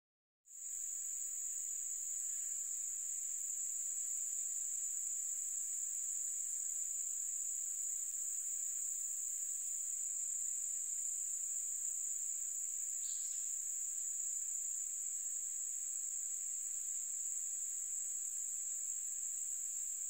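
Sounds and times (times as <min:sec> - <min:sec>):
crickets chirping: 0:00.5 - 0:20.0.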